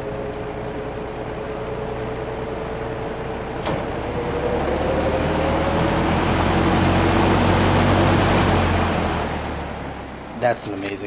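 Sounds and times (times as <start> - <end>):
box fan motor hum: 0.0 - 11.0.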